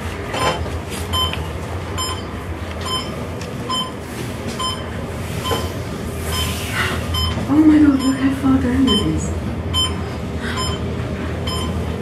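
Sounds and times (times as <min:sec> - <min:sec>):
elevator humming: 0:00.0 - 0:12.0
elevator beeps: 0:00.3 - 0:12.0.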